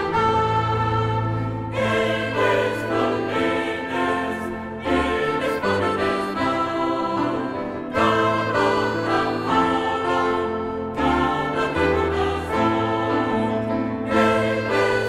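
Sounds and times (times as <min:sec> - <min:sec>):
choir singing held notes: 0:00.0 - 0:15.0
orchestral music: 0:00.0 - 0:15.0.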